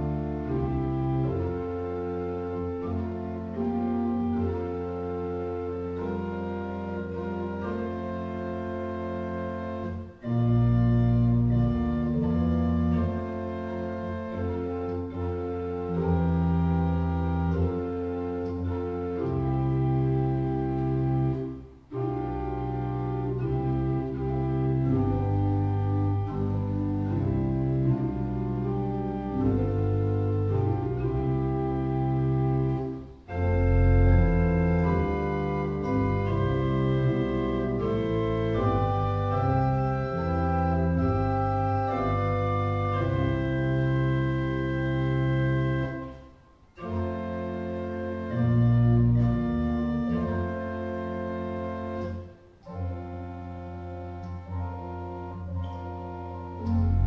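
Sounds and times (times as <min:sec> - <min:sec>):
pipe organ playing a chorale: 0:00.0 - 0:57.0.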